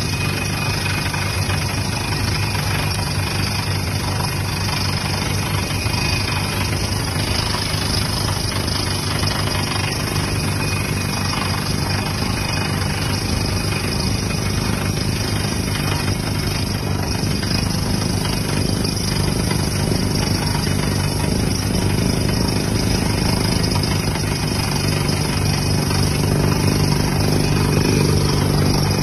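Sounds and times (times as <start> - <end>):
drilling rig engine: 0.0 - 29.0.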